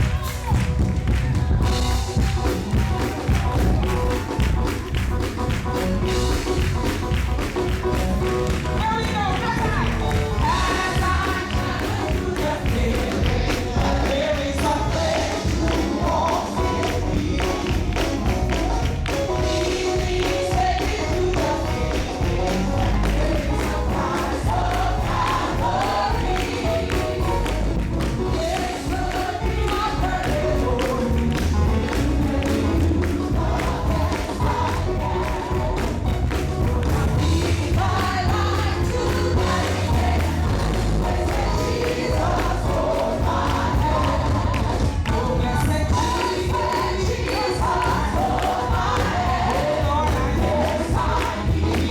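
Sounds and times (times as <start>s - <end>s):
band with heavy bass and percussion: 0.0s - 51.9s
group of voices singing: 0.0s - 51.9s.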